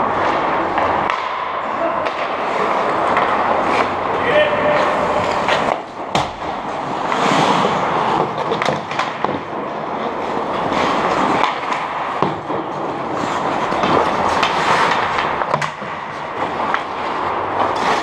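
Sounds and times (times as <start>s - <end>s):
hockey sticks and puck clacking: 0.0s - 18.0s
skate blades scraping on ice: 0.0s - 18.0s.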